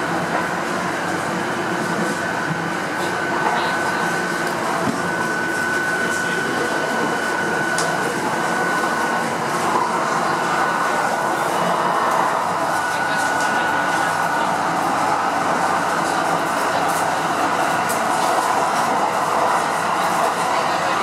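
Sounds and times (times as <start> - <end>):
train rolling rumble and hiss: 0.0 - 21.0.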